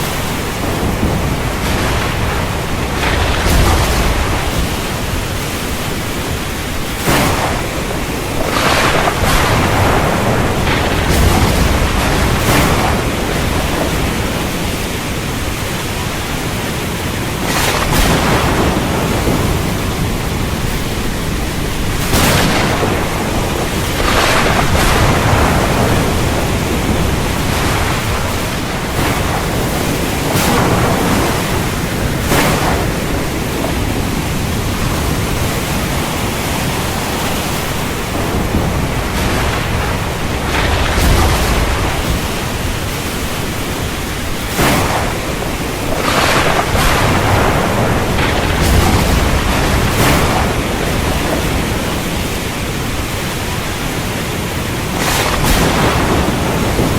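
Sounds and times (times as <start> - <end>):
low rumble of thunder: 0.0 - 54.0, 54.8 - 56.9
heavy rain falling: 0.0 - 56.9.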